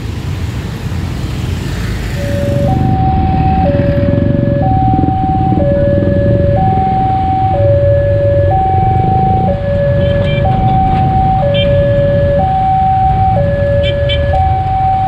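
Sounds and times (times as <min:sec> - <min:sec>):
motorcycle and car engines: 0:00.0 - 0:15.0
two-tone level-crossing alarm: 0:02.2 - 0:15.0.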